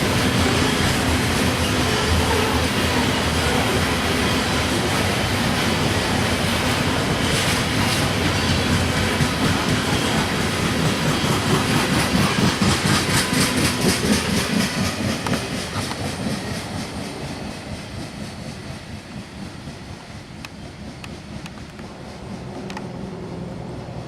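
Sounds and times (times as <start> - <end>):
train wheels clicking over rail joints: 0.0 - 23.7.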